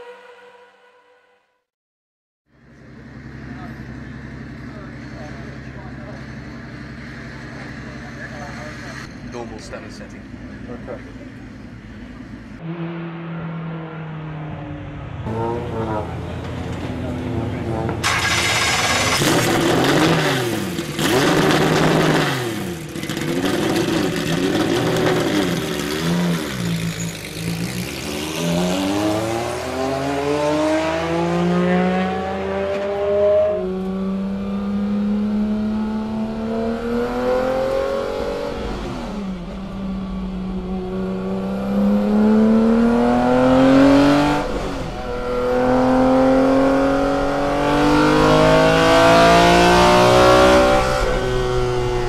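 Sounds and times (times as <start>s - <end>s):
racing engine revving: 2.8s - 52.0s.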